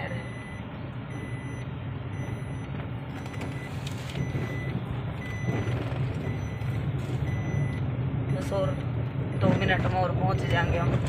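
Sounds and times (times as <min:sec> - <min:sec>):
car engine and road hum: 0:00.0 - 0:11.0
high electronic beep: 0:00.1 - 0:09.8.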